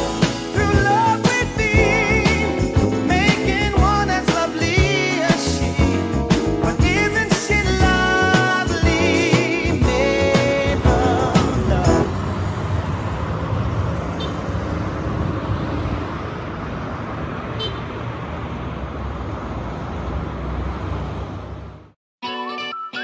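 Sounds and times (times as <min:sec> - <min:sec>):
cars passing on city road: 0:00.0 - 0:22.0.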